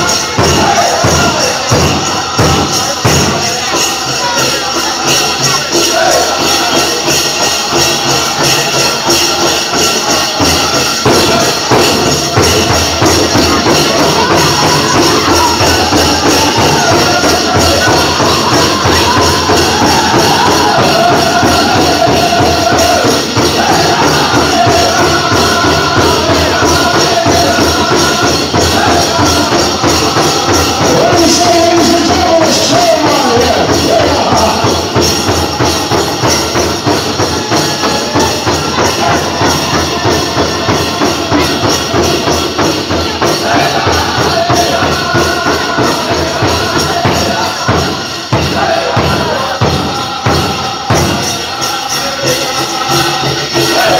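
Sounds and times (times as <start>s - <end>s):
bells jingling: 0.0s - 53.9s
men singing: 0.0s - 53.9s
steady drumbeat: 0.0s - 53.9s.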